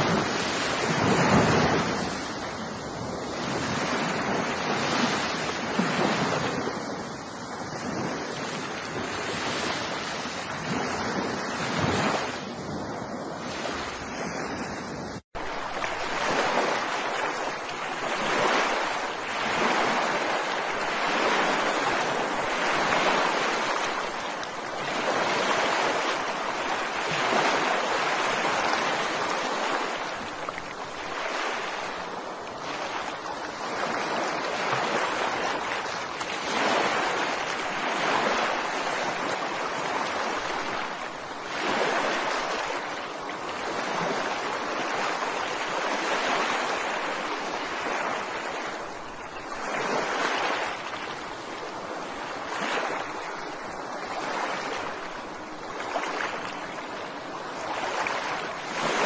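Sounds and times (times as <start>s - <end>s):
ocean waves breaking on a beach: 0.0s - 59.0s.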